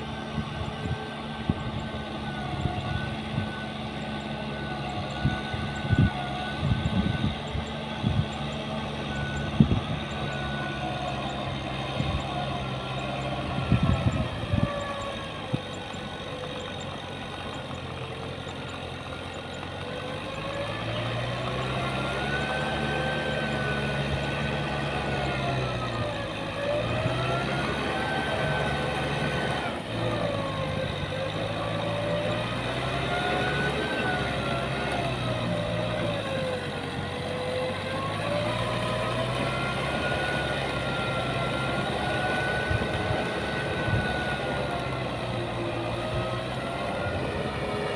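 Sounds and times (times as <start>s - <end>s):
heavy machinery diesel engine: 0.0s - 47.9s.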